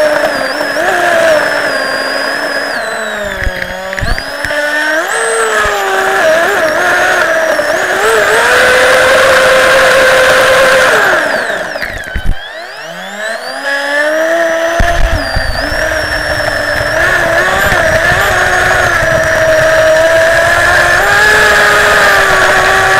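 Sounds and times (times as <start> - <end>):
electric motor whining: 0.0 - 22.9.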